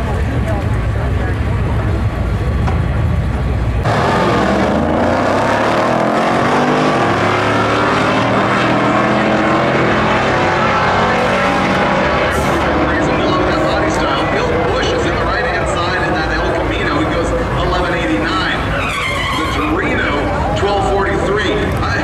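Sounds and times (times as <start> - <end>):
engines at full throttle: 0.0 - 18.8
drag racing cars rumbling: 0.0 - 22.0.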